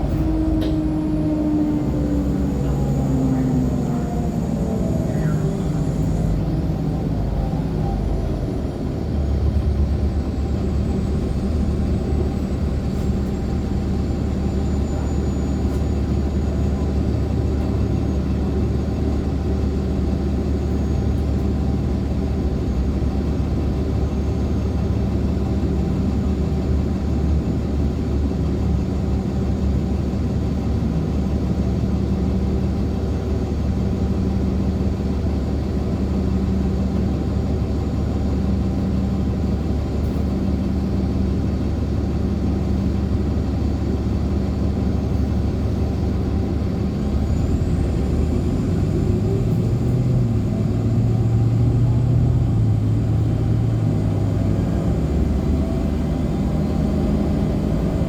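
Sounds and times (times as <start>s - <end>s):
bus drive whine: 0.0s - 58.0s
diesel engine idling: 0.0s - 58.0s.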